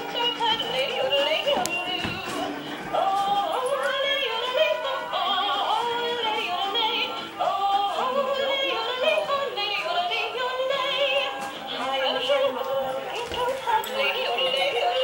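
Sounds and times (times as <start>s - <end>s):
novelty song music: 0.0s - 15.0s.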